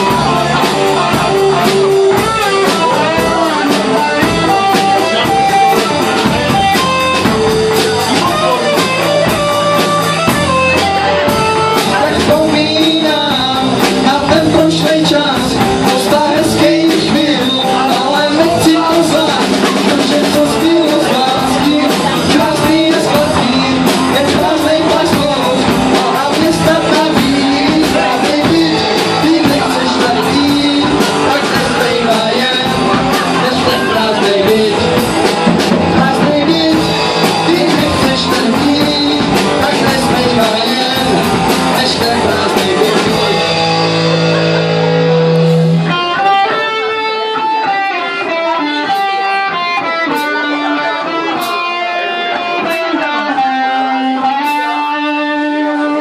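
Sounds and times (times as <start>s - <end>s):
electric guitar picking single notes: 0.0s - 56.0s
rock band playing live: 0.0s - 56.0s.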